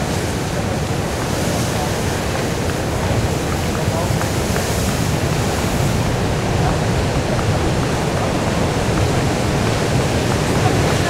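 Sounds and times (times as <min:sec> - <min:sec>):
surf breaking: 0:00.0 - 0:11.0
wind: 0:00.0 - 0:11.0.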